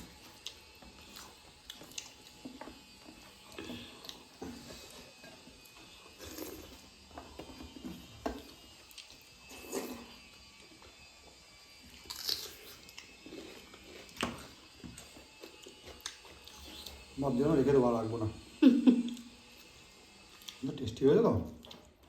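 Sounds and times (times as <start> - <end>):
chewing and mouth smacks: 0.0 - 7.6, 8.3 - 11.1, 11.9 - 17.2, 19.0 - 20.6, 21.5 - 22.0.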